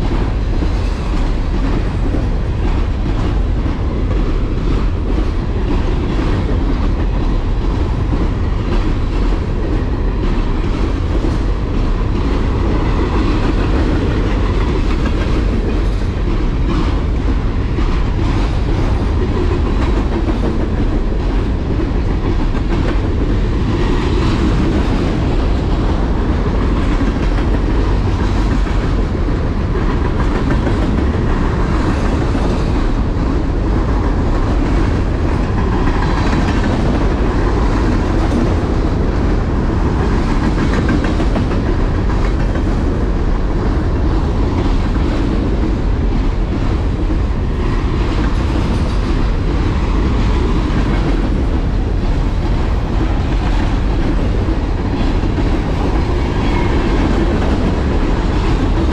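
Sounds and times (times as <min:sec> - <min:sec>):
train wheels clacking on rails: 0:00.0 - 0:58.9.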